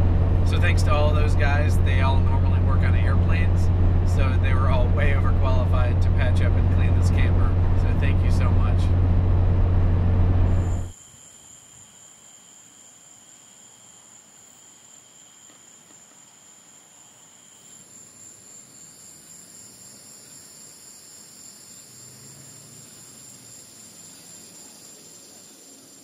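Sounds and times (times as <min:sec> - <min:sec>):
higher thinner insect chorus: 0:00.2 - 0:08.8, 0:10.5 - 0:26.0
insect chorus trilling: 0:00.5 - 0:07.4, 0:10.5 - 0:26.0.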